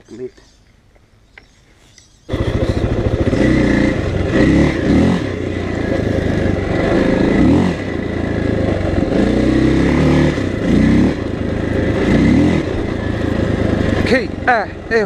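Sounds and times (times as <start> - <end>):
dirt bike engine revving: 2.3 - 15.0.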